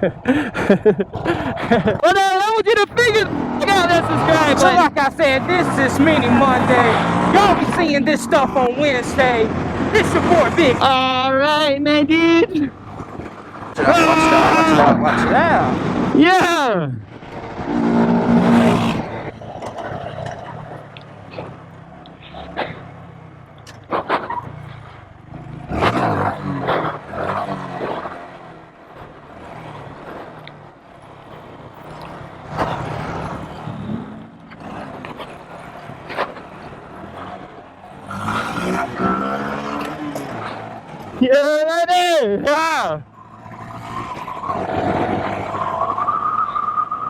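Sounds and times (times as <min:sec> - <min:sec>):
mini bike engines revving: 0:00.0 - 0:47.0.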